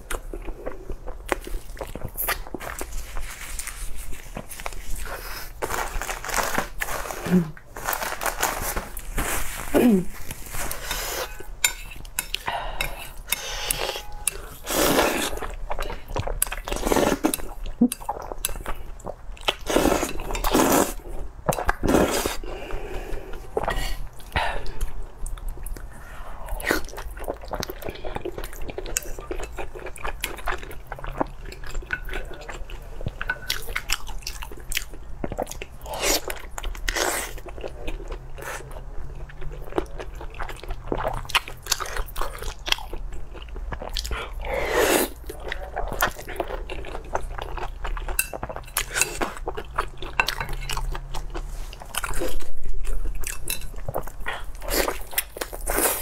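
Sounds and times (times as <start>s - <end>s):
wet chewing and mouth sounds: 0.0s - 56.0s.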